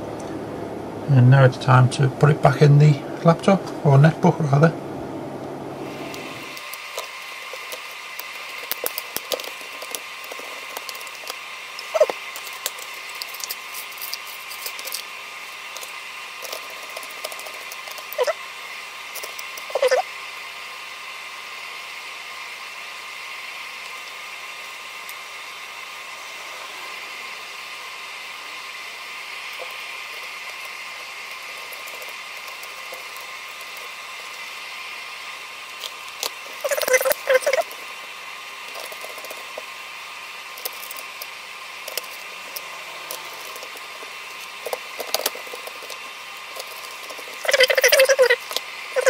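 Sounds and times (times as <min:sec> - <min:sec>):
steady background hiss: 0:00.0 - 0:49.0.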